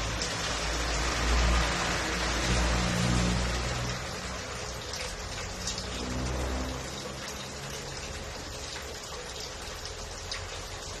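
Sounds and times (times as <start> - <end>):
aquarium filter water splashing: 0.0 - 11.0.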